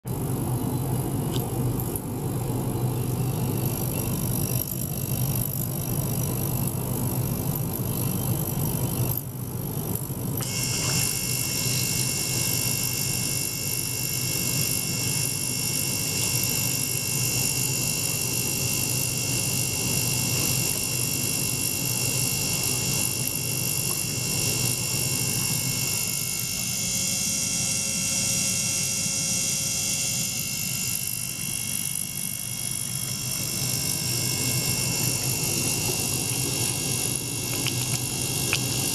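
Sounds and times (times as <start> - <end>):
small water pump running: 0.0 - 38.9.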